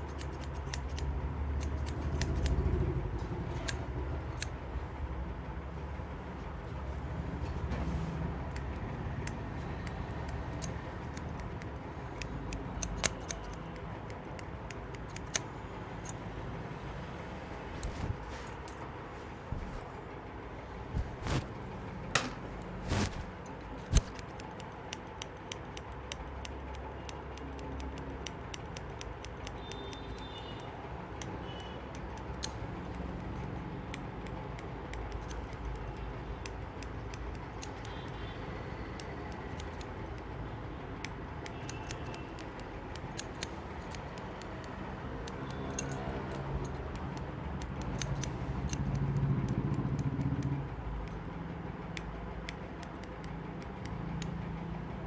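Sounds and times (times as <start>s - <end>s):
scissors snipping hair: 0.0s - 2.8s, 3.5s - 4.6s, 8.5s - 16.2s, 17.5s - 18.9s, 19.6s - 19.9s, 20.9s - 21.5s, 22.2s - 38.3s, 39.0s - 40.3s, 41.0s - 54.4s.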